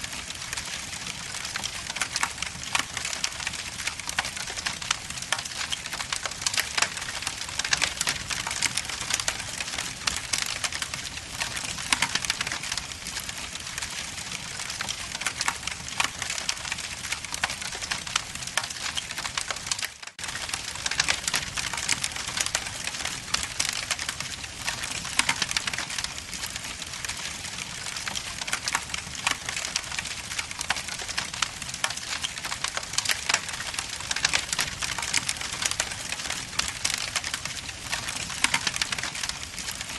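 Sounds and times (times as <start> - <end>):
log fire crackling and popping: 0.0 - 39.9.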